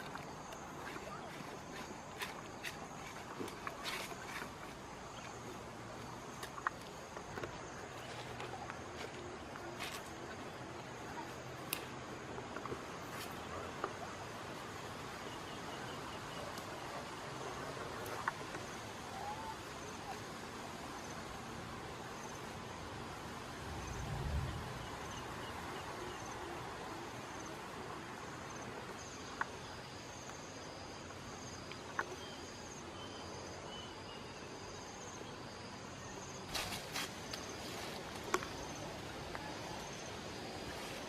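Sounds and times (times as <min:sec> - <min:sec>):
insects chirping: 0:00.0 - 0:41.0
outdoor ambience: 0:00.0 - 0:41.0.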